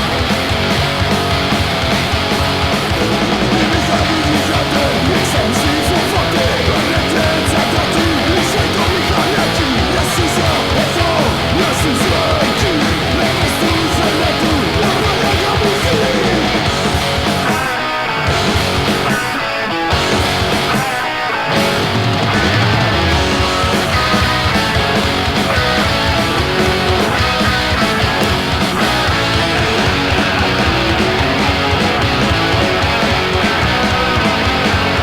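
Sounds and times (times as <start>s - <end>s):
punk rock song: 0.0s - 35.0s.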